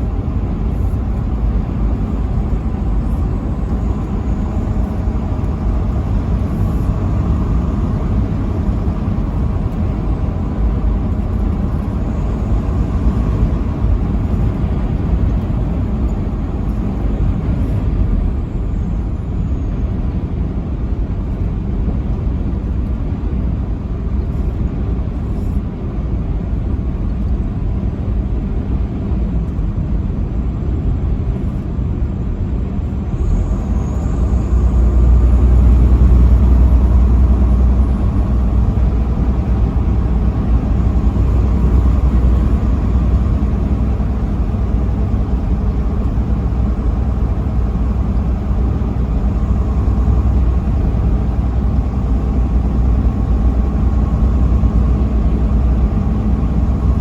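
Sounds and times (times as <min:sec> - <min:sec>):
vehicle driving on highway: 0:00.0 - 0:57.0.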